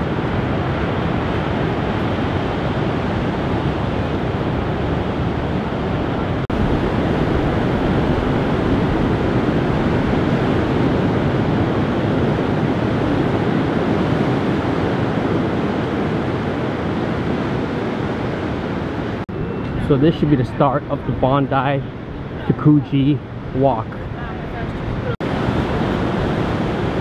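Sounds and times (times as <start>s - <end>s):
surf breaking on a beach: 0.0s - 27.0s
wind buffeting microphone: 0.0s - 27.0s.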